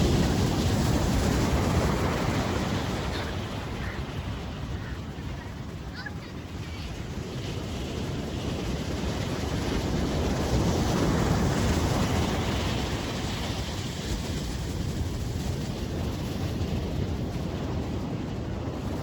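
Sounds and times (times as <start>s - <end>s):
ocean surf: 0.0s - 19.0s
wind buffeting the microphone: 0.0s - 19.0s.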